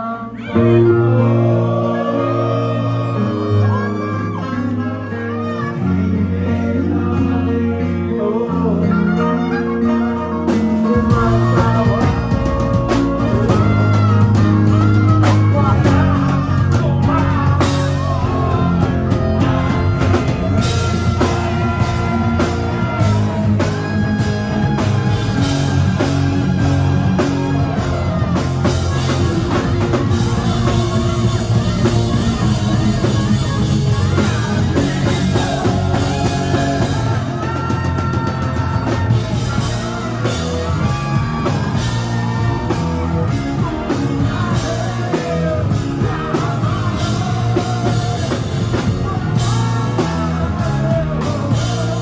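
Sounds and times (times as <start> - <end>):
live rock band playing: 0.0 - 52.0
man singing: 0.0 - 52.0.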